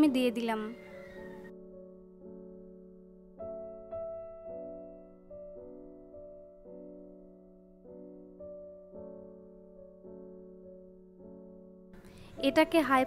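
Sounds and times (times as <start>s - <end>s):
slow soft piano notes: 0.0s - 13.0s.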